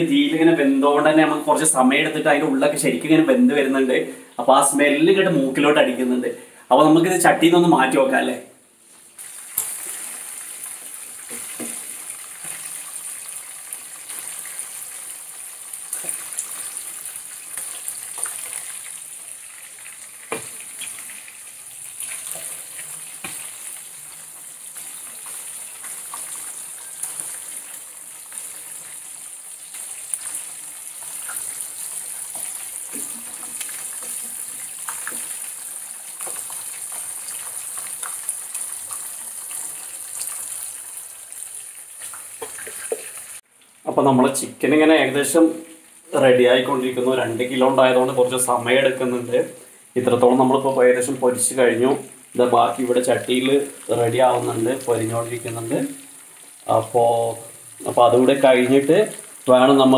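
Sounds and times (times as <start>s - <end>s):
chicken frying in oil: 9.0s - 59.9s.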